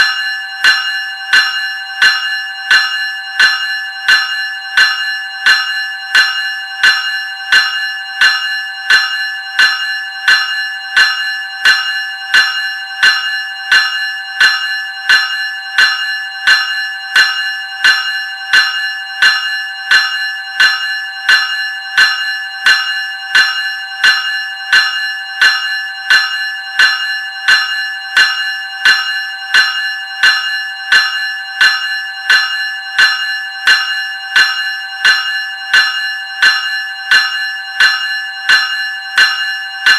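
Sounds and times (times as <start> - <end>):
electric bell ringing: 0.0 - 39.9.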